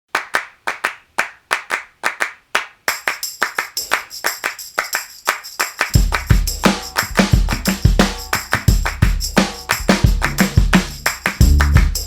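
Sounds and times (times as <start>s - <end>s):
rhythmic hand claps: 0.1s - 12.0s.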